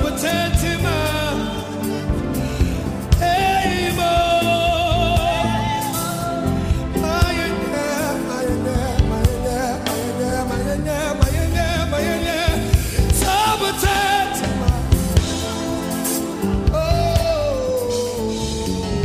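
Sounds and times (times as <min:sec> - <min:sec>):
gospel band with drum kit: 0:00.0 - 0:19.0
person singing with vibrato: 0:00.0 - 0:19.0.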